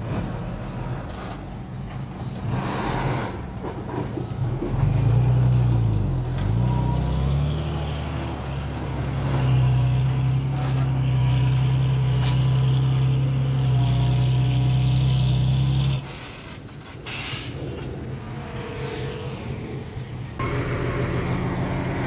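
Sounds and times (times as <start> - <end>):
diesel engine running: 3.4 - 22.0.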